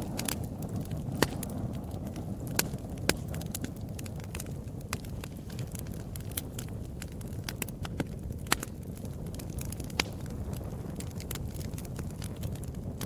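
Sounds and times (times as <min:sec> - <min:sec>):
low rumble of flame: 0:00.0 - 0:13.0
wood fire crackling and popping: 0:00.0 - 0:13.0.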